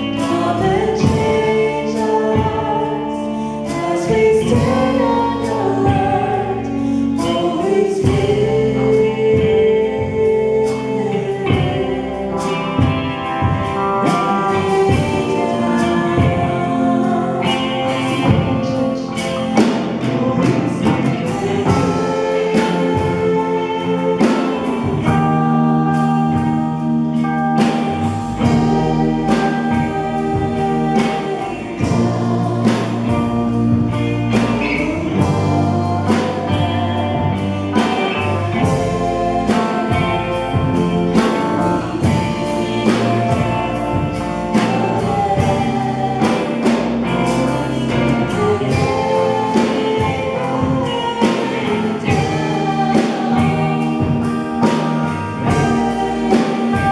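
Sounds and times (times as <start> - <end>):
drum kit beat: 0.0 - 56.9
guitar: 0.0 - 56.9
worship band playing: 0.0 - 56.9.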